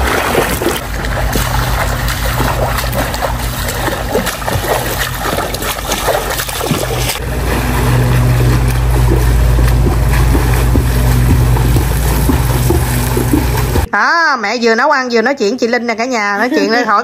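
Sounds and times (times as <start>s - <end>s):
engine droning: 0.0s - 13.9s.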